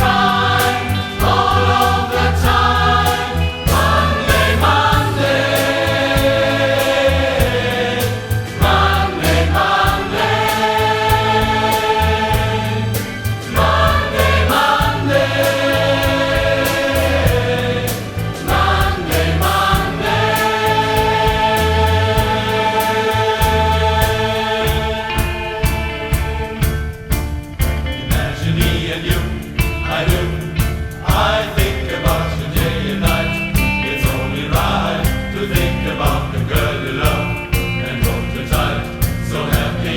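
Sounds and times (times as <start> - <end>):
choir singing in harmony: 0.0 - 39.9
instrumental backing with beat: 0.0 - 39.9.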